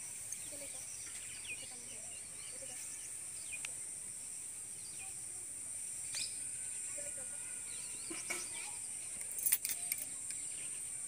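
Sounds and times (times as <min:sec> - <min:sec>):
bird chirps: 0:00.0 - 0:05.2, 0:06.0 - 0:11.0
insect drone: 0:00.0 - 0:11.0.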